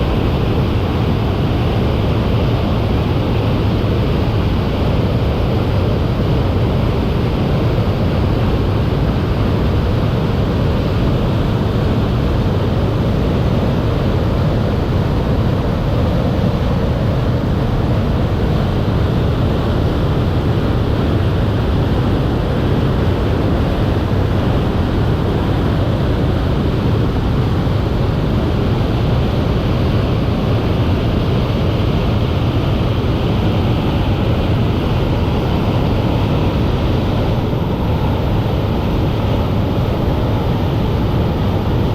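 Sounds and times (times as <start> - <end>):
waterfall rushing: 8.0 - 41.9.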